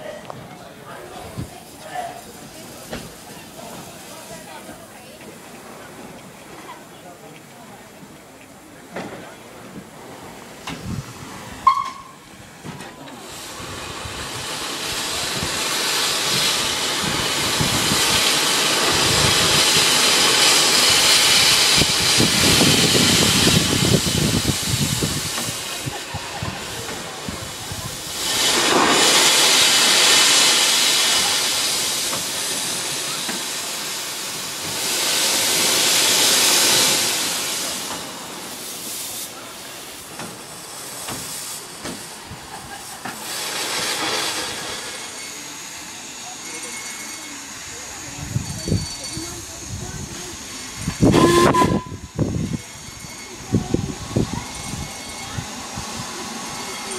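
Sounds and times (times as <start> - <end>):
steam locomotive hissing steam: 0.0 - 56.9.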